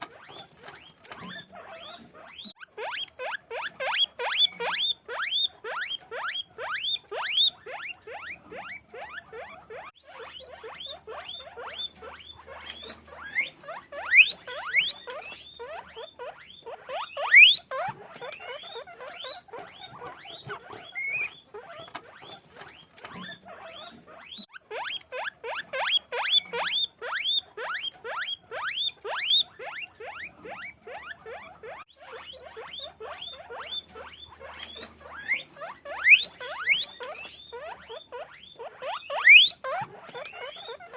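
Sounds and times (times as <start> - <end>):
guinea pigs squeaking: 0.0 - 40.9.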